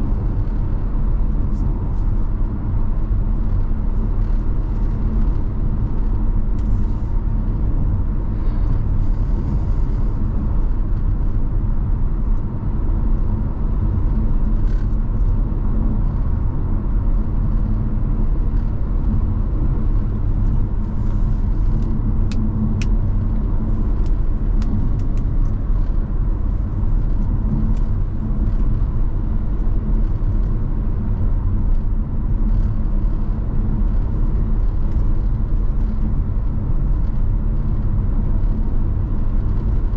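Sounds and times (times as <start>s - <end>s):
car engine and tyre road noise: 0.0s - 39.9s
faint steady hum: 0.0s - 39.9s.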